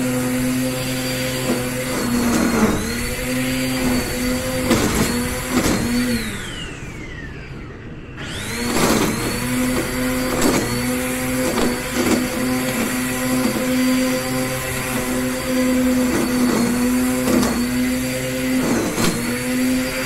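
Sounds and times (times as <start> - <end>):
electric string trimmer whine: 0.0 - 20.0
trimmer line cutting grass: 0.0 - 20.0.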